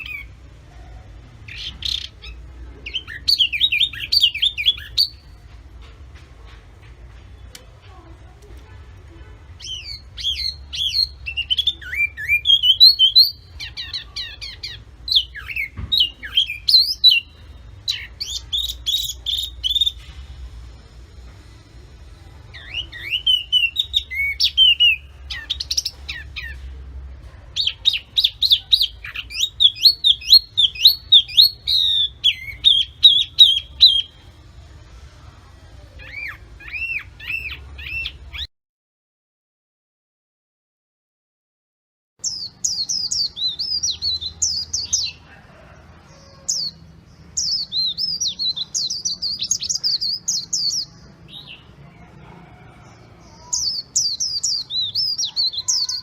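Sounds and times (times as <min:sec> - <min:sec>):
songbird singing: 0:00.0 - 0:20.6, 0:21.2 - 0:34.4, 0:35.8 - 0:38.5, 0:42.2 - 0:56.0.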